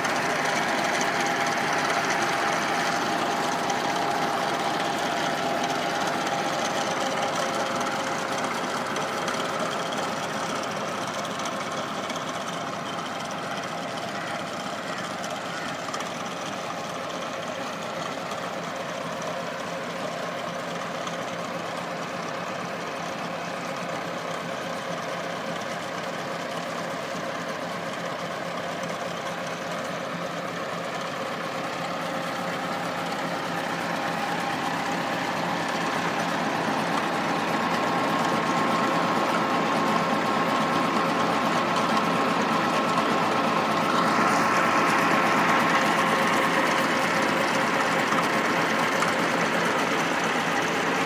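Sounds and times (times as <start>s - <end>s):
diesel tractor engine running: 0.0s - 51.0s.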